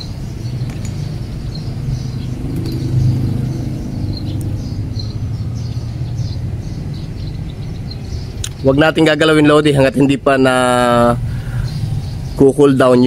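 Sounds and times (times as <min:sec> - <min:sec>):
small birds chirping: 0:00.0 - 0:13.0
vehicle engine rumble: 0:00.0 - 0:13.0.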